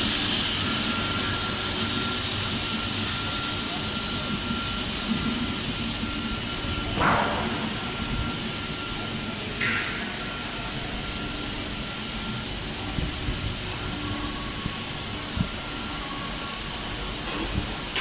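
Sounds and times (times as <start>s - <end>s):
machine drone and hiss: 0.0s - 18.0s.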